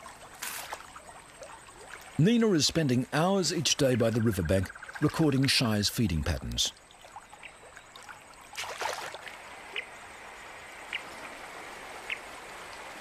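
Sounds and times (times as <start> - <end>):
river flowing: 0.0 - 13.0.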